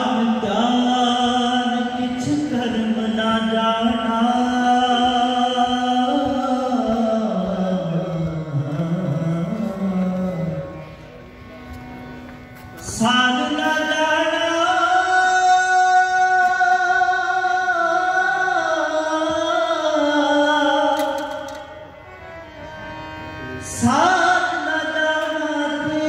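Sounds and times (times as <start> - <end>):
harmonium: 0.0 - 26.0.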